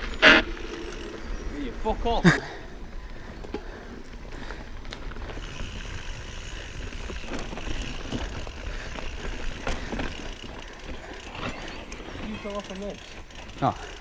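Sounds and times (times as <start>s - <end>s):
bike rattling over bumps: 0.0s - 14.0s
bike tyres rolling over dirt: 0.0s - 14.0s.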